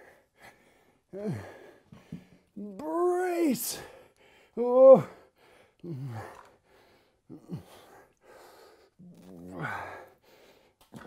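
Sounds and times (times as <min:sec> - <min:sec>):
man breathing hard: 0:00.0 - 0:02.6, 0:03.7 - 0:09.0, 0:09.6 - 0:10.8.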